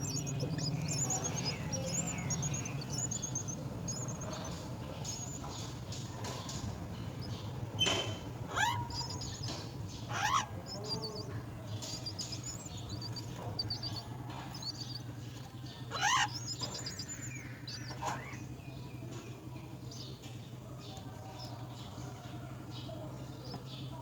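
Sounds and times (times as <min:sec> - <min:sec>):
loud sweeping bird calls: 0:00.0 - 0:20.2
birds chirping: 0:00.0 - 0:24.0.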